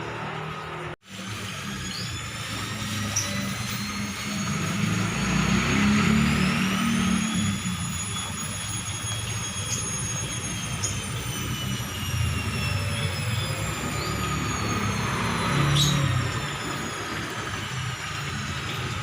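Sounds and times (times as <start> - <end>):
washing machine drum whining: 1.2 - 19.0.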